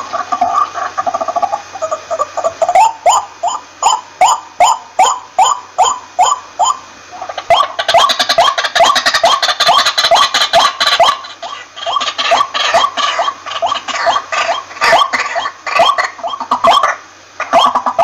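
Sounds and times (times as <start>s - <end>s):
harsh rasping bird call: 0.0s - 18.0s
bird calling short rising notes: 1.2s - 18.0s.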